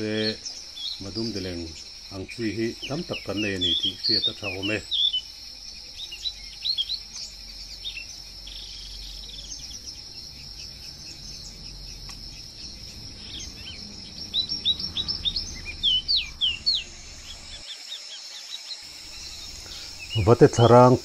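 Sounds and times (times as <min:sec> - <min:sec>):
high insect drone: 0:00.0 - 0:21.0
small birds chirping: 0:00.0 - 0:21.0.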